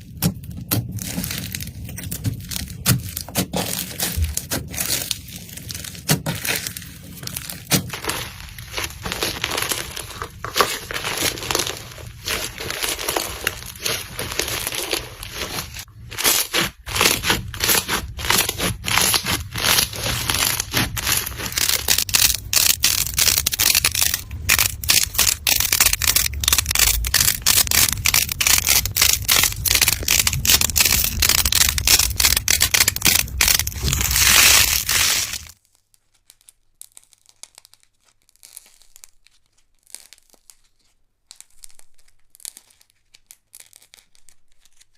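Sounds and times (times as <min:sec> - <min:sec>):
slime crackling and popping: 0:00.0 - 0:44.9.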